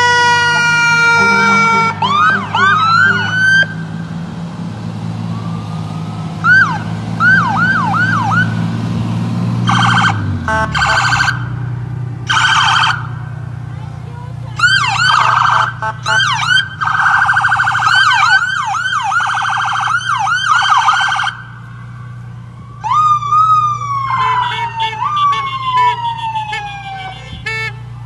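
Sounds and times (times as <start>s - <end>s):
siren chirps: 0.0s - 4.0s, 5.2s - 8.7s, 9.6s - 11.7s, 12.3s - 13.3s, 14.6s - 28.0s
police sirens wailing: 0.0s - 28.0s.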